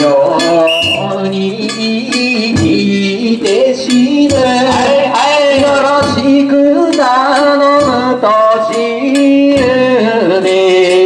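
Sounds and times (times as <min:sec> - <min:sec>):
person singing unaccompanied folk song: 0:00.0 - 0:11.0.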